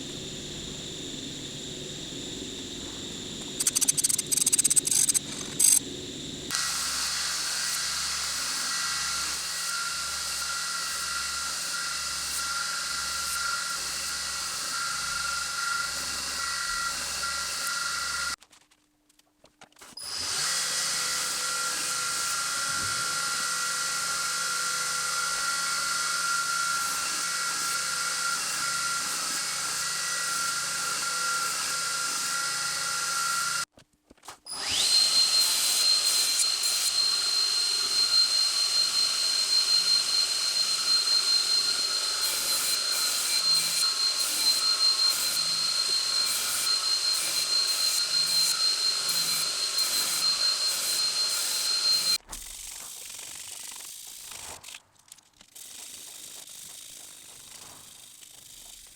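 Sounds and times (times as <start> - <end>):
power tool running: 0.0 - 18.4, 20.0 - 33.7, 34.5 - 52.2.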